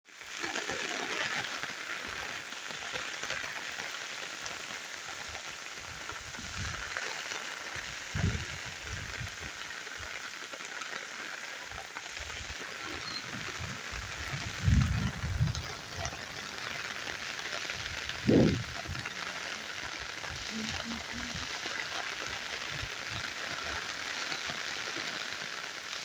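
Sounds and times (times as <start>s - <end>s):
steady rain hiss: 0.1s - 26.0s.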